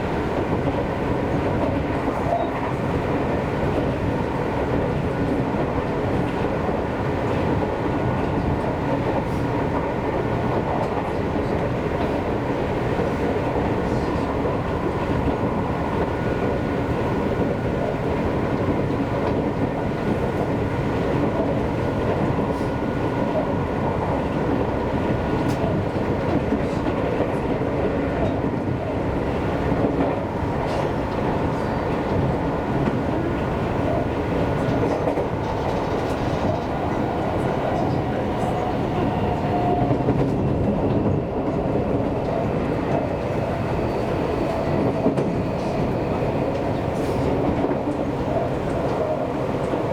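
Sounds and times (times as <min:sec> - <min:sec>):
rail joint clicks: 0:00.0 - 0:49.9
train wheels rumbling on rails: 0:00.0 - 0:49.9.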